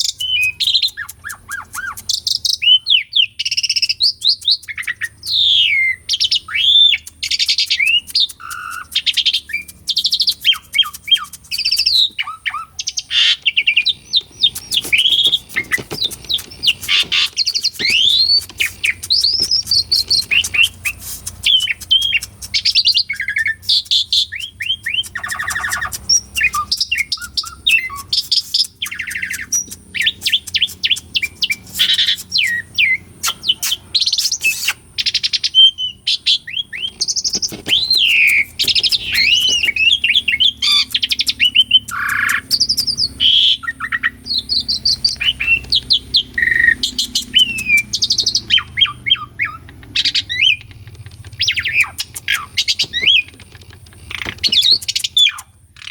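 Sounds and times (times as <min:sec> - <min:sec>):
starling singing: 0:00.0 - 0:55.9.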